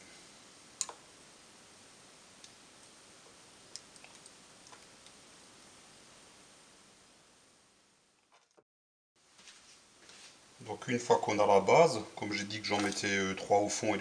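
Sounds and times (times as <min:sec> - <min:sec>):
steady low hiss: 0:00.0 - 0:08.2, 0:09.2 - 0:14.0.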